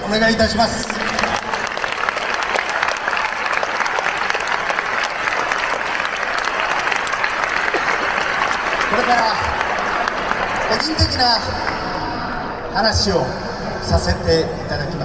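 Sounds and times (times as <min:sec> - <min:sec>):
stadium crowd applauding: 0:00.0 - 0:13.2.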